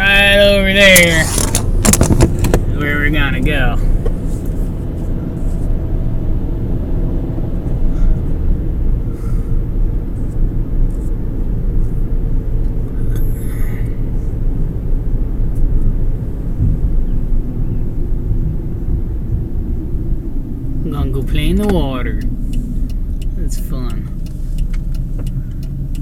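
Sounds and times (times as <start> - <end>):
car cabin engine and road noise: 0.0 - 26.0.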